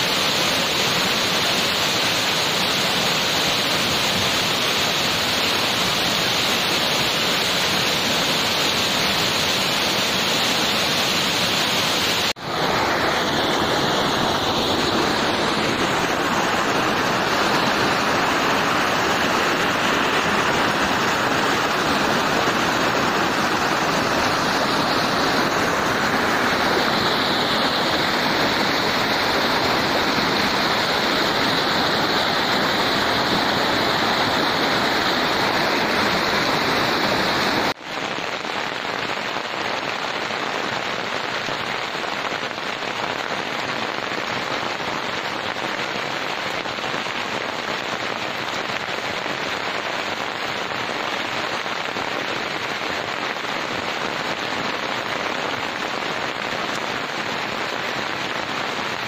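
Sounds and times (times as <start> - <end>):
rain pattering on leaves: 0.0 - 59.0
waterfall rushing over rocks: 0.0 - 59.0.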